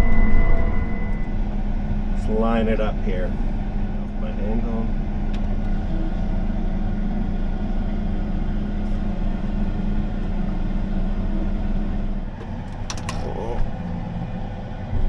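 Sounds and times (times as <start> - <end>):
combine engine running: 0.0 - 15.0.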